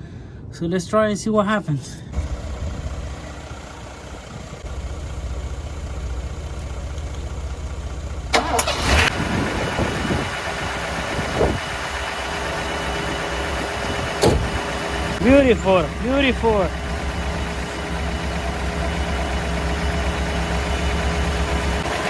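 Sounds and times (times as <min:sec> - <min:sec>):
engine idling: 0:02.1 - 0:22.0
engine cranking on starter: 0:03.4 - 0:22.0.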